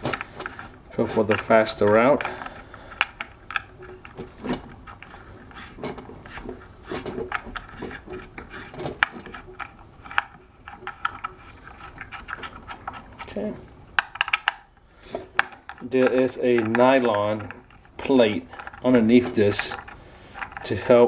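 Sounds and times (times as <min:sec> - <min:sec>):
small metal clicks and scraping: 0:00.0 - 0:13.4, 0:14.0 - 0:21.0.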